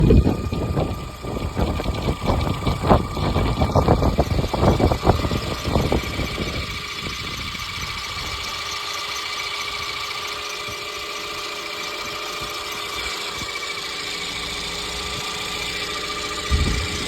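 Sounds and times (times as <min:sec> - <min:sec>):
car engine clatter and whine: 0:00.0 - 0:17.0.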